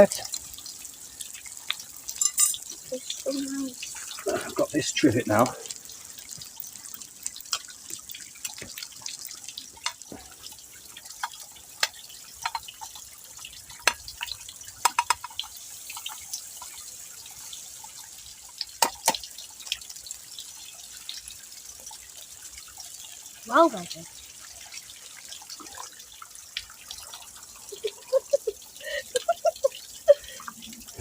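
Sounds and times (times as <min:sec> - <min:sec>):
small waterfall trickling: 0:00.0 - 0:31.0
water drips and plops: 0:00.0 - 0:31.0.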